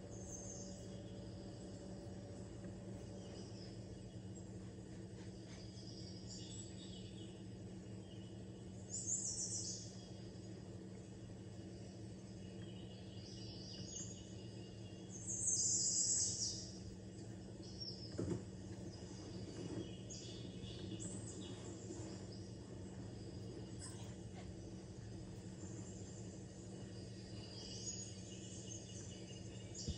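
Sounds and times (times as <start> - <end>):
low electrical hum: 0.0 - 29.9.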